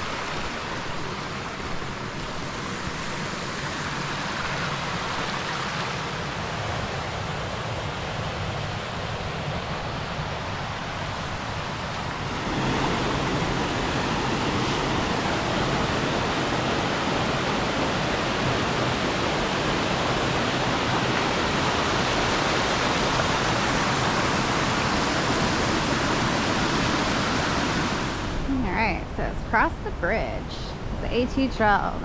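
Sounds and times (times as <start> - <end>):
stream water rushing: 0.0 - 29.3.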